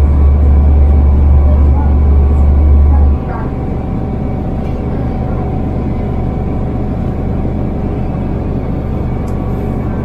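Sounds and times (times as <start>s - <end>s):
low hum: 0.0s - 10.0s
train wheels rumbling on rail: 0.0s - 10.0s.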